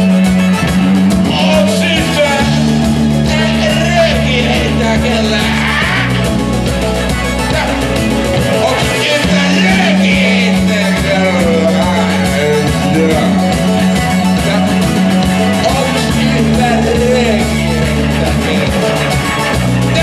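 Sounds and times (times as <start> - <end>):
person singing: 0.0 - 6.4, 7.4 - 20.0
rock and roll band playing: 0.0 - 20.0.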